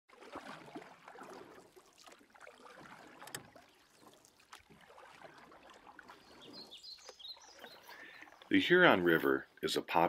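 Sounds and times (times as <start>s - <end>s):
water lapping and splashing: 0.1s - 10.0s.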